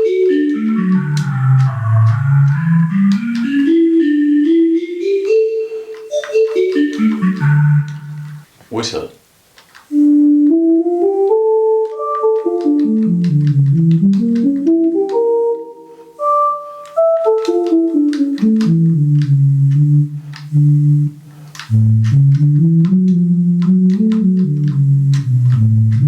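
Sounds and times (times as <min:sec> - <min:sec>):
digital wind instrument melody: 0:00.0 - 0:08.5, 0:09.9 - 0:13.3, 0:14.1 - 0:24.4.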